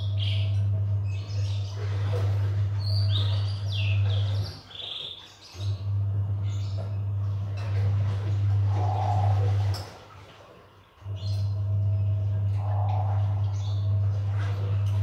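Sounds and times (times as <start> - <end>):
steady low hum: 0.0 - 4.7, 5.6 - 10.2, 10.9 - 15.0
birds chirping: 0.0 - 15.0.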